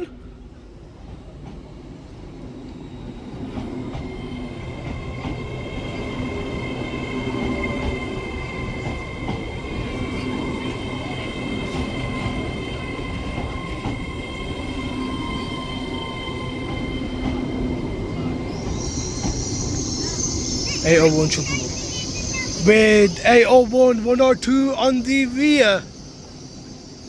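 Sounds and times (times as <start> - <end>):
electric train arriving: 2.1 - 27.0.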